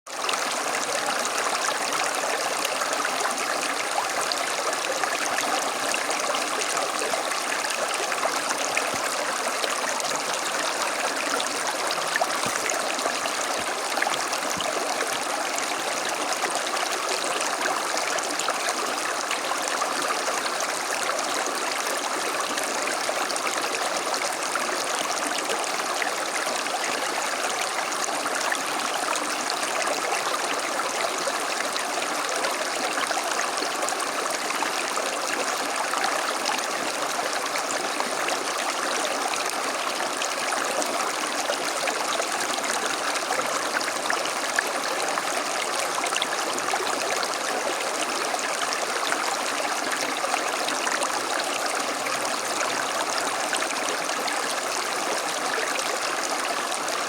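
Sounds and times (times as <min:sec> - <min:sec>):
creek running over stones: 0:00.1 - 0:57.0.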